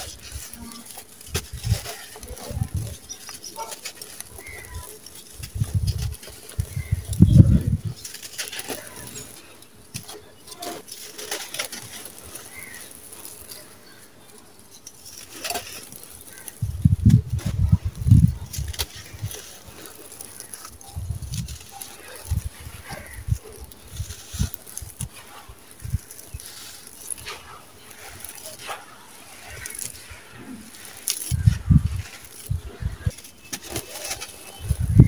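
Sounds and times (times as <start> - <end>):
hands crushing dry lumps: 0.0 - 35.0
sand trickling through fingers: 0.0 - 35.0.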